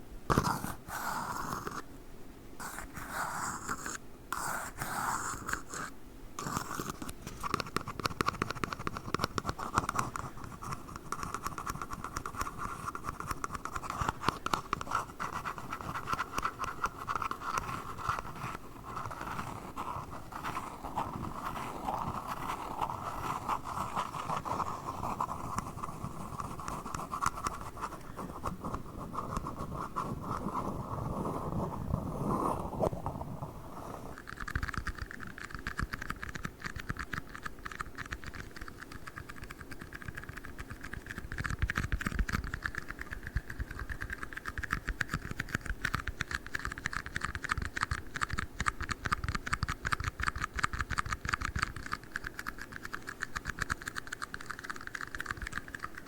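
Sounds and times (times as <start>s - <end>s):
scratching and tapping on cups: 2.6s - 56.0s.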